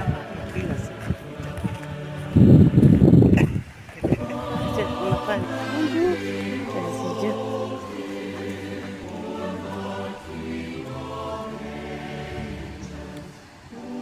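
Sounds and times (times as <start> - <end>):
choir singing held chords: 0.0 - 3.4, 4.0 - 14.0
sustained bass: 0.0 - 13.4.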